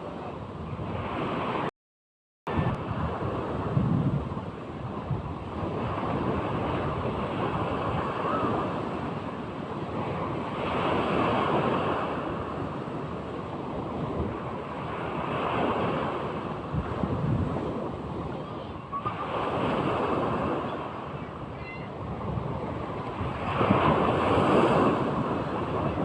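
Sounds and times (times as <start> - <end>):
sea waves breaking: 0.0 - 1.7, 2.5 - 26.0
wind buffeting microphone: 0.0 - 1.7, 2.5 - 26.0.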